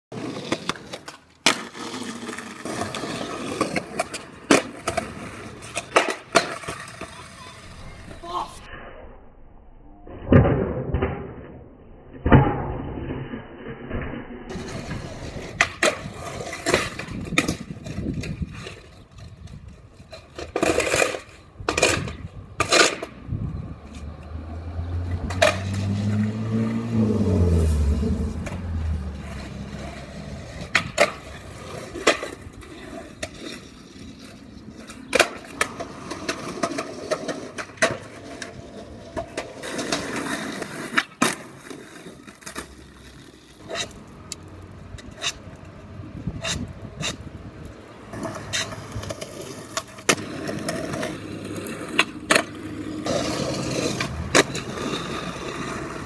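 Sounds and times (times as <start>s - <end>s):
skateboard rolling on asphalt: 0.1s - 8.6s, 10.1s - 56.0s
skateboard slapping ground: 0.1s - 8.8s, 10.1s - 56.0s
skateboard tail cracks: 0.2s - 8.3s, 10.3s - 24.3s, 26.7s - 56.0s.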